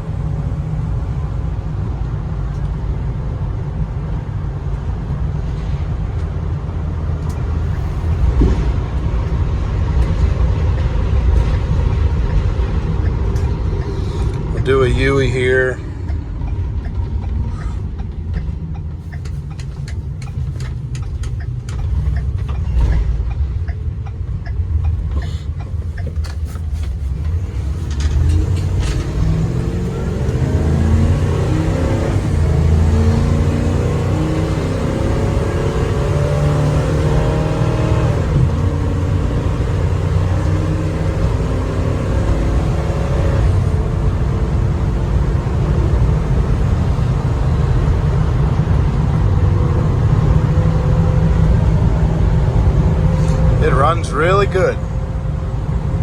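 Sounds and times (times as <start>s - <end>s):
truck engine rumbling: 0.0s - 56.0s.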